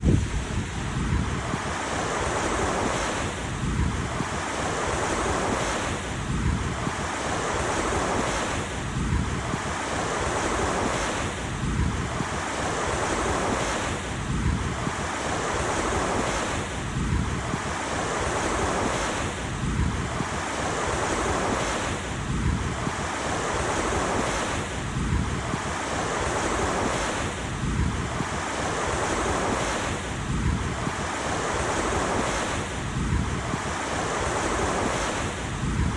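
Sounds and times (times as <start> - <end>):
ocean surf washing: 0.0 - 35.9.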